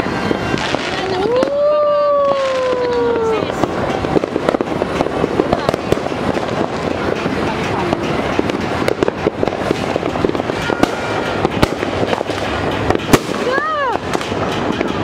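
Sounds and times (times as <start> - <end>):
firecrackers crackling: 0.0 - 15.0
fireworks bangs: 0.0 - 15.0.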